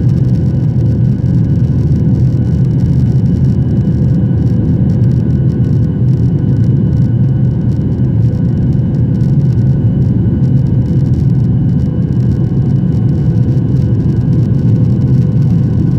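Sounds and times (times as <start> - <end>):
jet engines deep rumble: 0.0 - 15.9.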